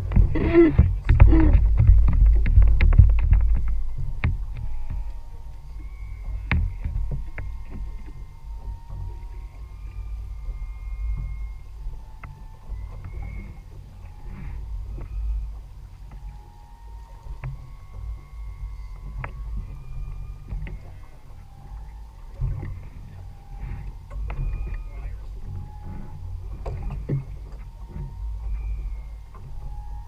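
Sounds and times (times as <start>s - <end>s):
boat engine low rumble: 0.0s - 30.0s
thin whistling tones: 3.8s - 30.0s.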